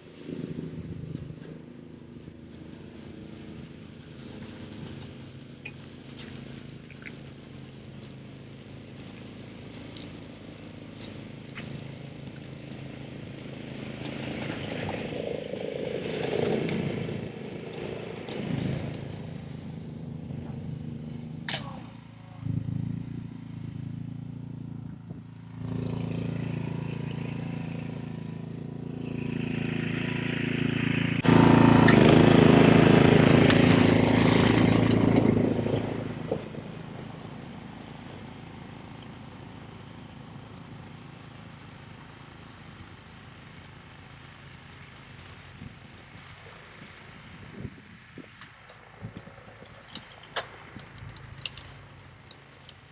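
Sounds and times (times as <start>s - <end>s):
snowblower engine running: 0.0s - 52.9s.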